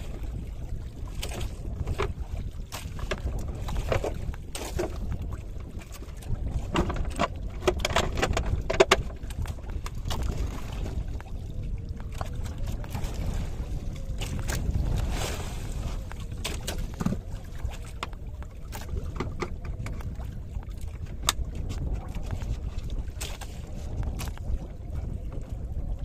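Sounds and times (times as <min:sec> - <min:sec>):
water knocks and splashes: 0:00.0 - 0:26.0
wind rumbling on microphone: 0:00.0 - 0:26.0.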